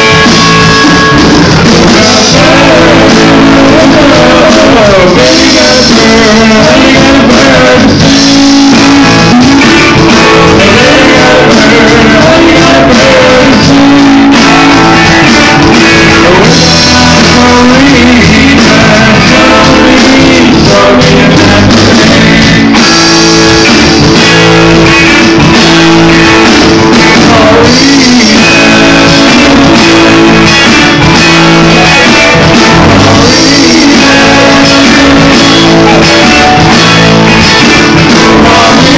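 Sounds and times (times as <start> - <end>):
drum kit: 0.0 - 38.9
electric guitars: 0.0 - 38.9
person singing: 0.0 - 38.9.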